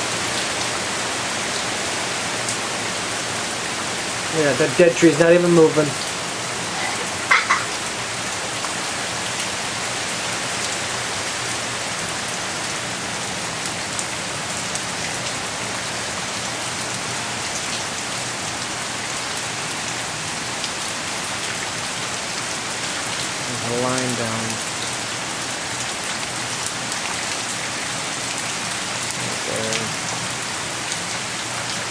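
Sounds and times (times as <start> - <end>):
heavy rain downpour: 0.0 - 31.9.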